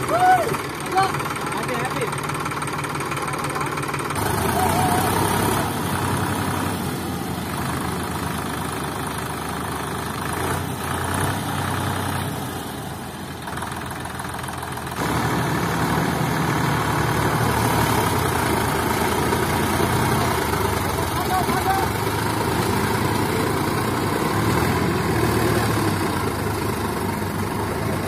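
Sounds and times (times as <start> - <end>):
tractor diesel engines idling: 0.0 - 28.0.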